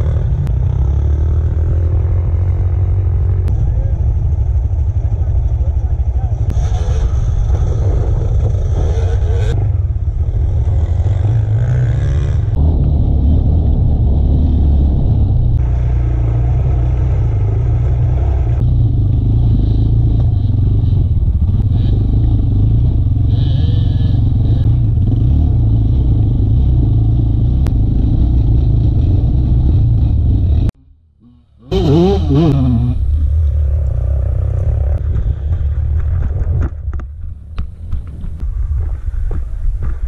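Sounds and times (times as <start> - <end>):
dirt bike engine running: 0.0 - 30.9, 31.6 - 40.0.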